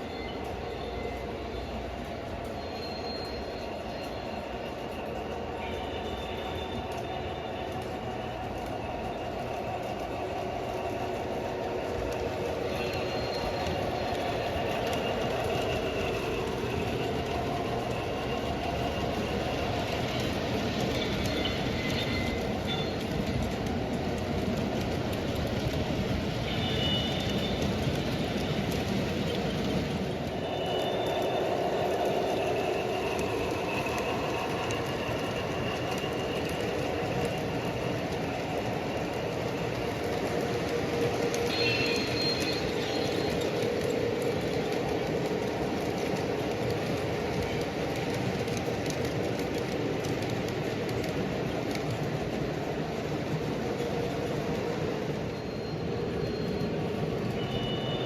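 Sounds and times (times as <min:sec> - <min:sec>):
high squeal: 0:00.0 - 0:23.8, 0:26.4 - 0:47.6, 0:53.8 - 0:58.0
model train motor and wheels: 0:00.0 - 0:58.0.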